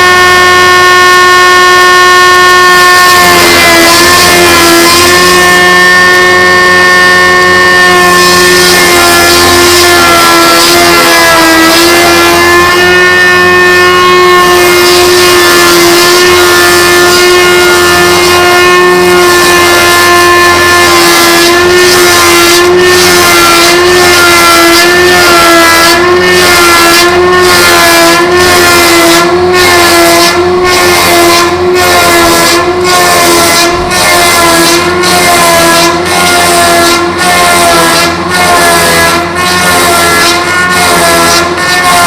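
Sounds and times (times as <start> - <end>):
machine whining: 0.0 - 42.0.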